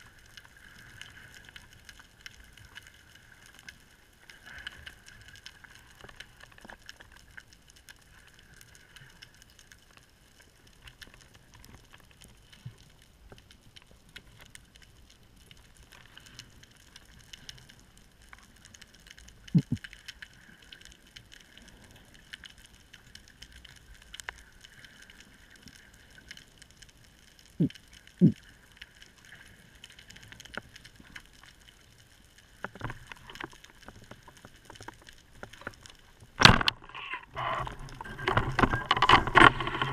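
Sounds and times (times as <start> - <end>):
small clicks: 0.0 - 39.9.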